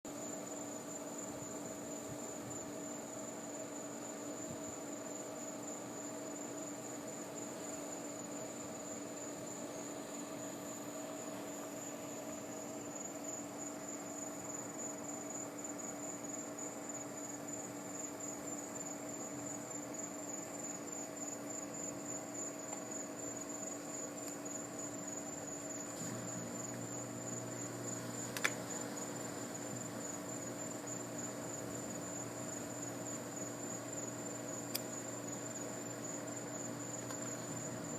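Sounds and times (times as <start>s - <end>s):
night insects trilling: 0.1s - 37.9s
steady low hum: 0.1s - 37.9s.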